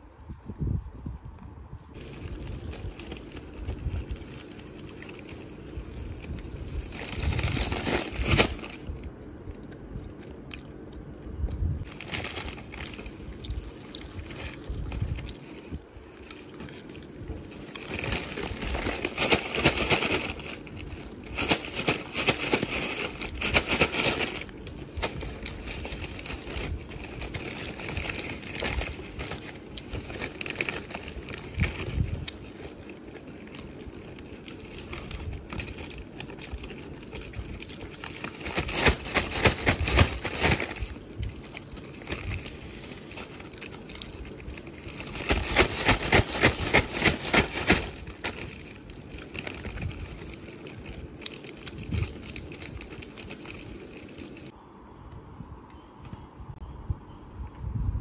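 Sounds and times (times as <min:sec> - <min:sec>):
crunching fried chicken: 0:01.9 - 0:54.6.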